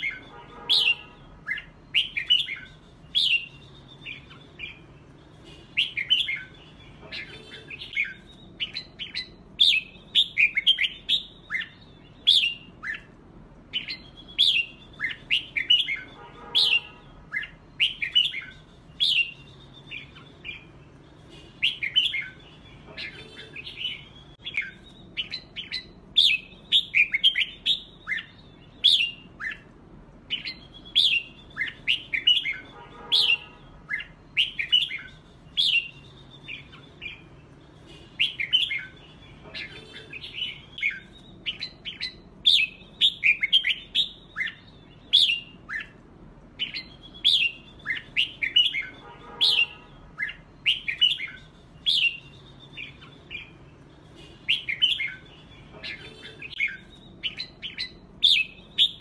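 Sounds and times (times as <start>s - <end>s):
bird song warbling whistles: 0.0s - 46.0s, 46.6s - 59.0s.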